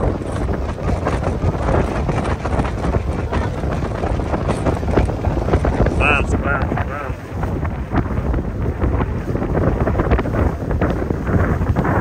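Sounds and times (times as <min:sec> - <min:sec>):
water rushing in boat wake: 0:00.0 - 0:12.0
wind buffeting microphone: 0:00.0 - 0:12.0.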